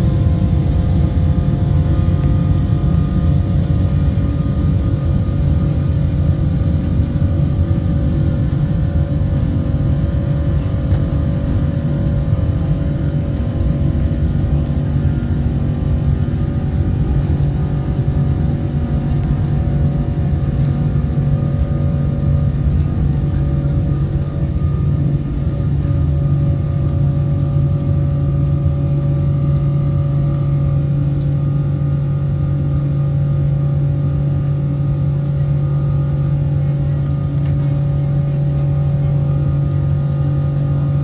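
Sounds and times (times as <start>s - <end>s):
jet engines rumbling: 0.0s - 41.0s.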